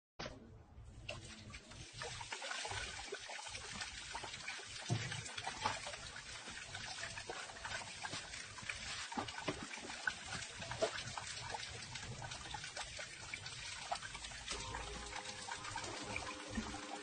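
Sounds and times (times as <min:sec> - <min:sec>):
water splashing into plastic basin: 0:01.0 - 0:17.0.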